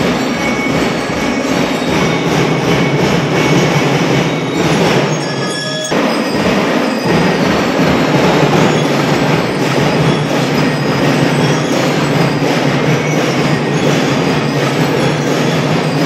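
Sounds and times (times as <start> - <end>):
drums beating a steady rhythm: 0.0 - 16.0.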